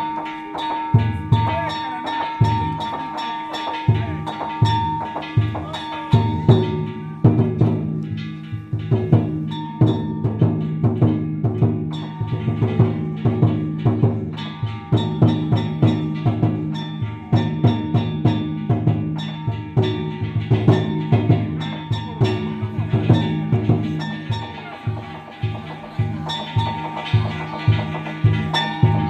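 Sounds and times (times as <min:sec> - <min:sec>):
metal gongs ringing: 0:00.0 - 0:29.0
taiko drum: 0:00.0 - 0:29.0.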